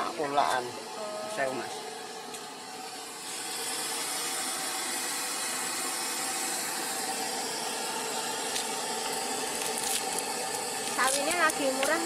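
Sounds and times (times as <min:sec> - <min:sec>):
boiling pot hissing: 0:00.0 - 0:12.0.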